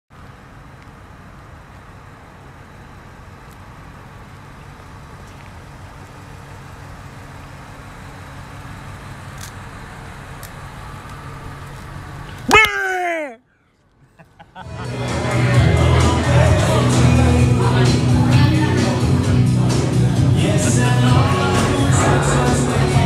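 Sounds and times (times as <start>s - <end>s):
vehicle engine idling: 0.1s - 23.0s.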